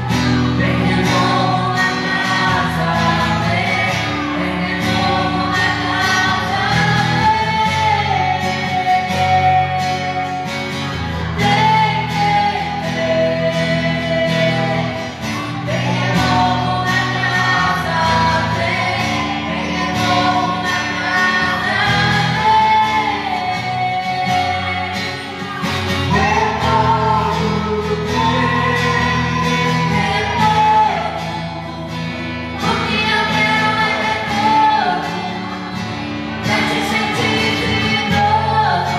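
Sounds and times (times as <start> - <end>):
worship song singing: 0.0 - 38.9.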